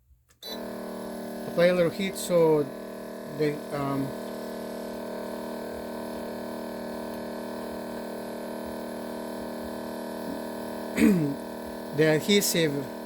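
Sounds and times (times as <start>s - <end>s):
electrical hum and buzz: 0.4s - 13.0s.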